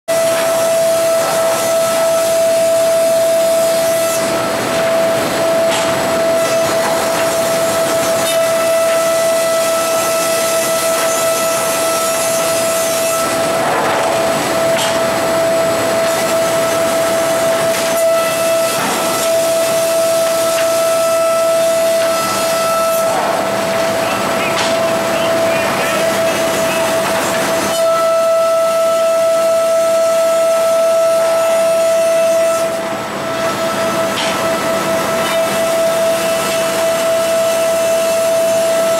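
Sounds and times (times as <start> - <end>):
planer whining: 0.1 - 38.9.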